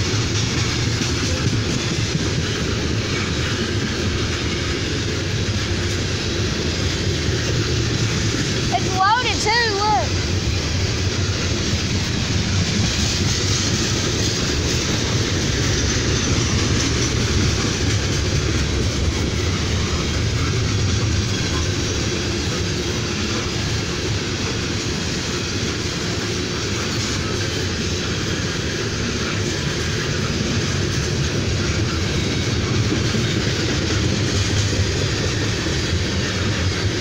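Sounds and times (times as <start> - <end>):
freight train wheels on rails: 0.0 - 37.0.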